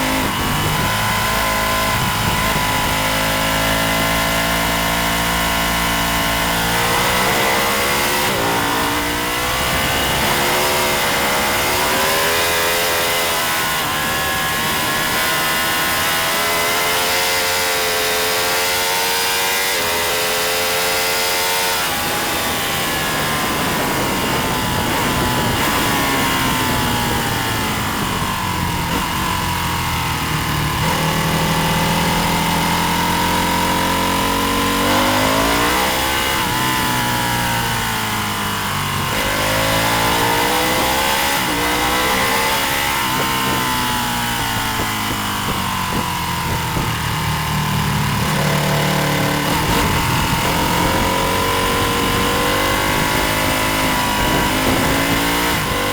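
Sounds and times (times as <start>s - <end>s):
wind noise: 0.0s - 20.2s, 20.8s - 55.9s
racing motorcycle engine: 0.0s - 55.9s.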